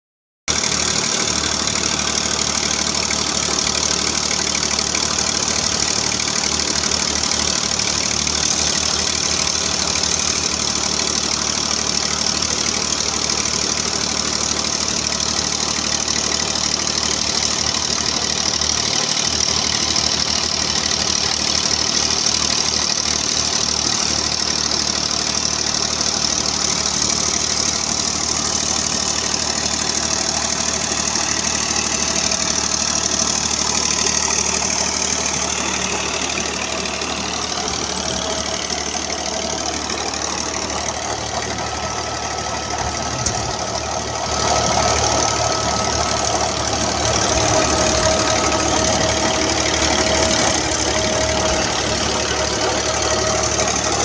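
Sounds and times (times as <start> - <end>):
diesel tractor engine running: 0.5 - 54.0.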